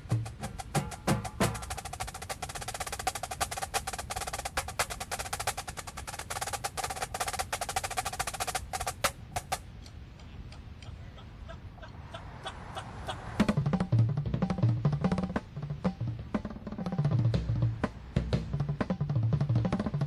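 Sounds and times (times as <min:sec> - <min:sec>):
fast snare drum strokes: 0:00.0 - 0:09.6, 0:13.4 - 0:20.0.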